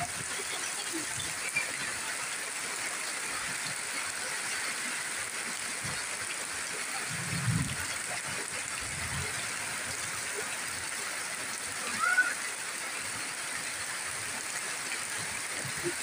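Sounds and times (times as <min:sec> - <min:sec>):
rain on leaves and roof: 0:00.0 - 0:16.0
water running off roof: 0:00.0 - 0:16.0.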